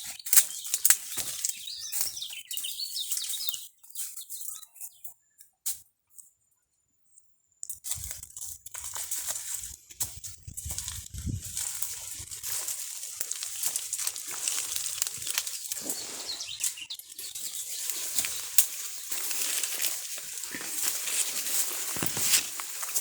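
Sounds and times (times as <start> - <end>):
dry rustling and crackling: 0.0 - 4.4, 7.8 - 23.0.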